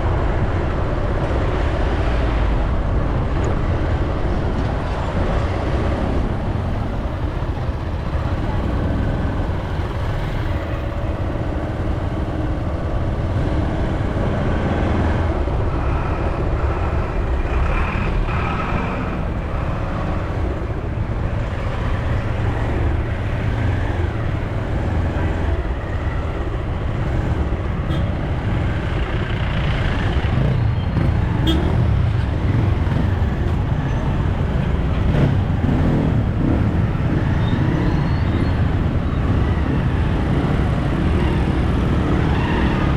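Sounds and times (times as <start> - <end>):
vehicle road rumble: 0.0 - 42.9.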